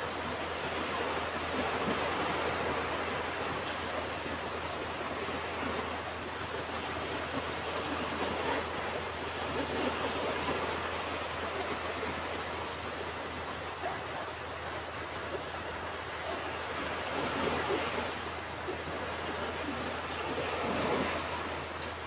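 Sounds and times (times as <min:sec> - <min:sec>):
ocean waves washing onto beach: 0:00.0 - 0:22.0.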